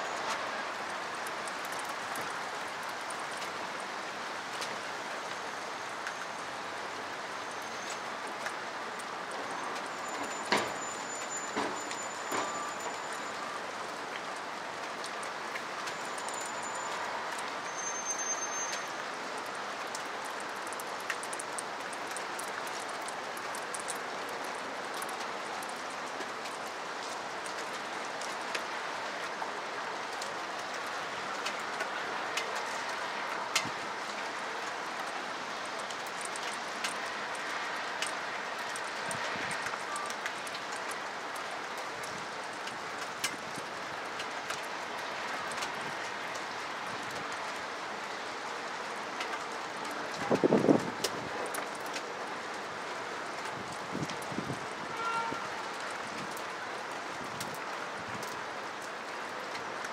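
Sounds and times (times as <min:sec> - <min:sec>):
steady rain on trees: 0:00.0 - 0:59.9
raindrop ticks: 0:00.1 - 0:59.9.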